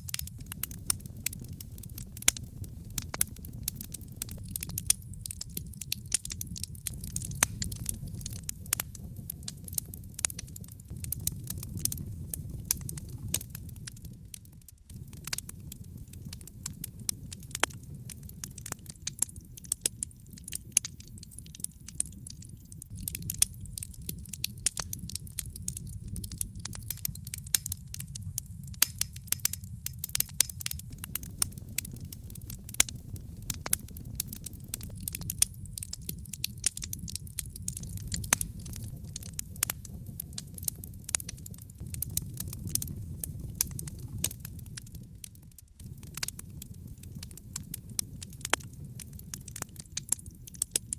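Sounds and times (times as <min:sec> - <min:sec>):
low rush of flames: 0:00.0 - 0:50.9
wood fire popping and snapping: 0:00.0 - 0:50.9.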